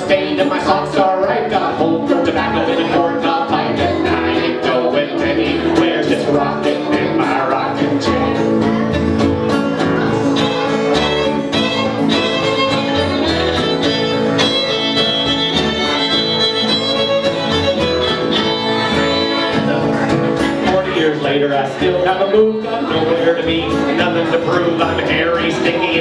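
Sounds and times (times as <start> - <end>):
fiddle melody: 0.0 - 26.0
plucked upright bass: 0.0 - 26.0
strummed acoustic guitar: 0.0 - 26.0.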